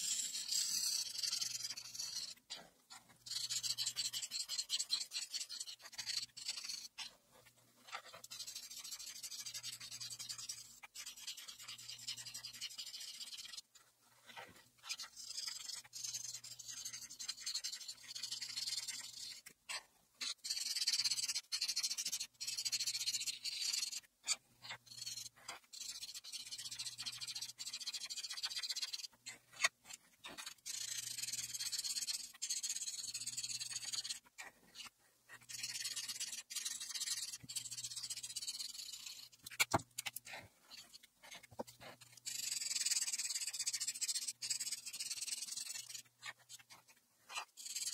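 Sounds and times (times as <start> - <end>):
marker scratching on paper: 0.0 - 47.9.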